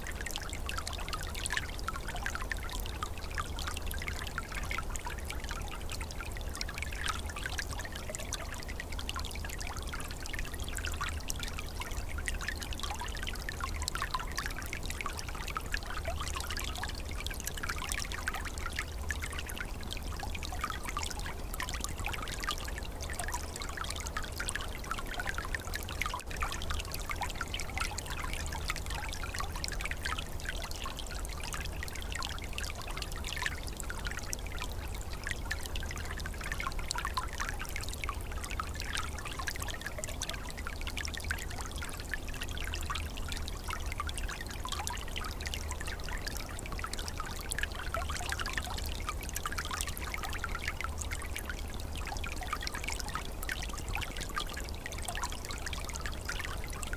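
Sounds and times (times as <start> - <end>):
stream trickling over stones: 0.0 - 56.9.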